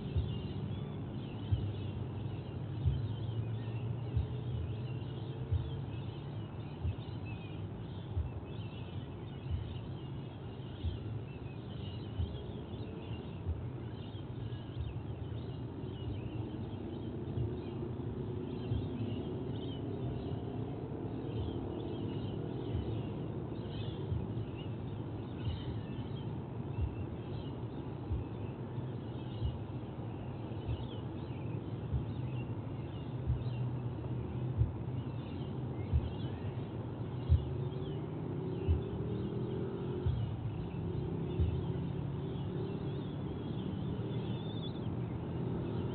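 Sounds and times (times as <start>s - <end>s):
faint high bird chirps: 0.0s - 45.9s
steady low hum: 0.0s - 45.9s.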